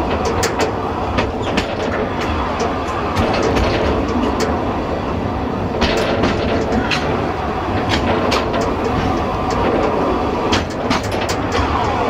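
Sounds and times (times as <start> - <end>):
train wheels rumbling on track: 0.0 - 12.0
wheels clicking over rail joints: 0.0 - 12.0.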